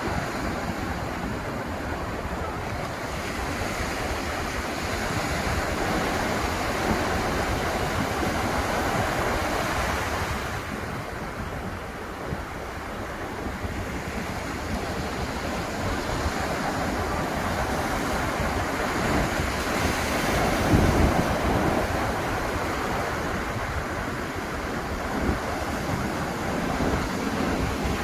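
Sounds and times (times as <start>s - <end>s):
surf washing onto beach: 0.0s - 28.0s
wind rumbling on microphone: 0.0s - 28.0s.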